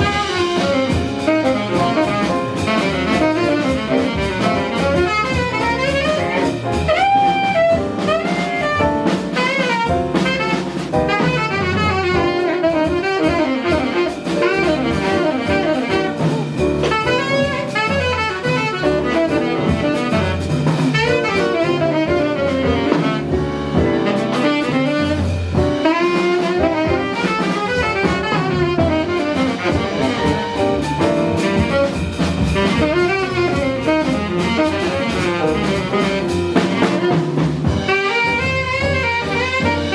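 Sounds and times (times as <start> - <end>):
double bass: 0.0 - 39.9
drum kit: 0.0 - 39.9
saxophone melody: 0.0 - 39.9.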